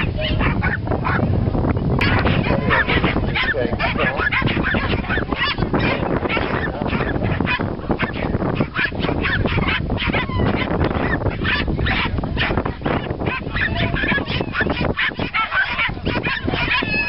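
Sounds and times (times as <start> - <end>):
dogs barking and yapping: 0.0 - 17.0.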